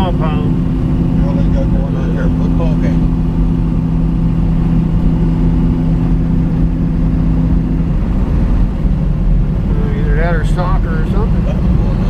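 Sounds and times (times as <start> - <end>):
car engine droning: 0.0 - 12.0
road rumble: 0.0 - 12.0.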